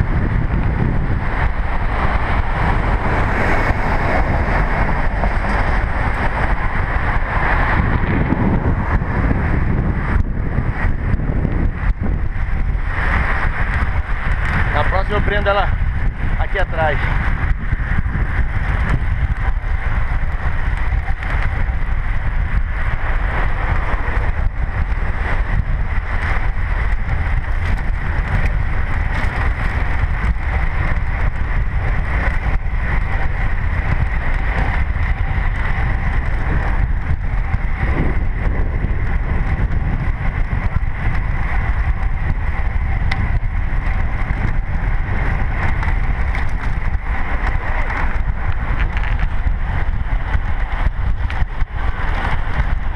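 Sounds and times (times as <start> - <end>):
bicycle tyres hissing on asphalt: 0.0 - 52.9
wind rushing over microphone: 0.0 - 52.9.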